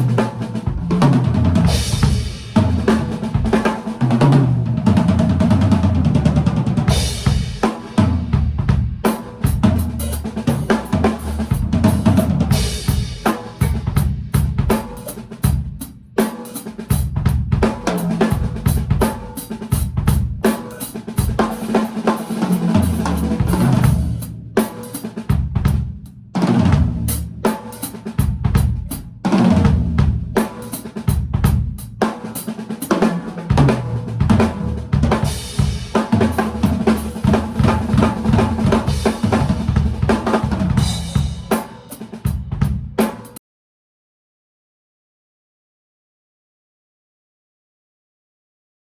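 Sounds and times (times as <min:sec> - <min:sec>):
bass drum: 0:00.0 - 0:16.1, 0:16.8 - 0:21.8, 0:22.4 - 0:32.1, 0:32.9 - 0:43.4.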